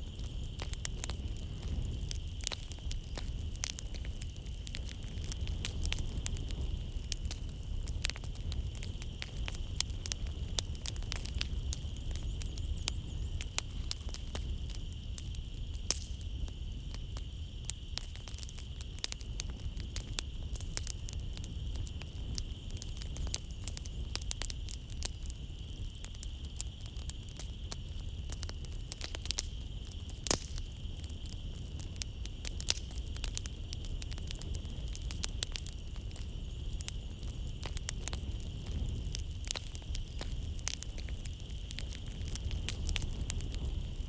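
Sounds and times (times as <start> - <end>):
night insects chirring: 0.0 - 44.0
wood fire crackling: 0.0 - 44.0.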